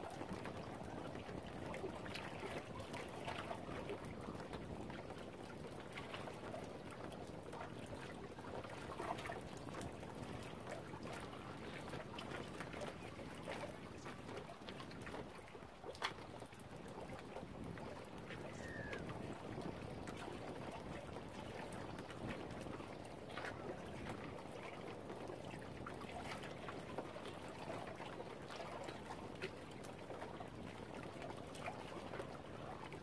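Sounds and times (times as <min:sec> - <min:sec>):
lake water lapping at shore: 0:00.0 - 0:33.0.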